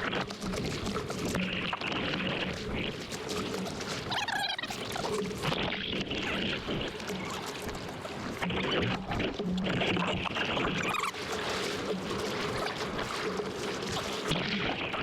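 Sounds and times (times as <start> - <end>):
sea water splashing and sloshing: 0.0 - 15.0.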